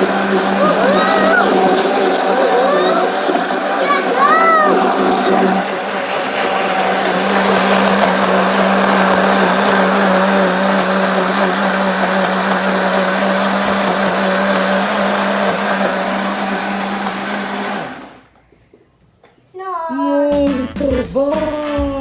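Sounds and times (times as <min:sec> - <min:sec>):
blender motor churning liquid: 0:00.0 - 0:18.3.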